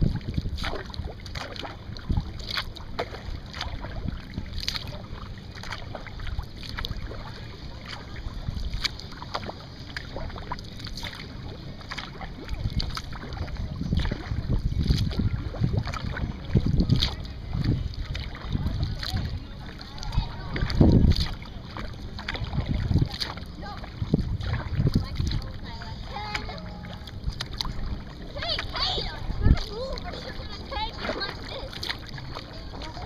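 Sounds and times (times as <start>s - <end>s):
paddle strokes in water: 0.0s - 33.0s
small water splashes: 0.0s - 33.0s
wind rumble on microphone: 0.0s - 33.0s.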